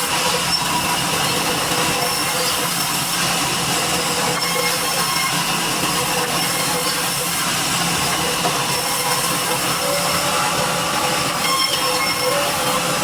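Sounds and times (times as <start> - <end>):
sawmill saw cutting wood: 0.0 - 13.0.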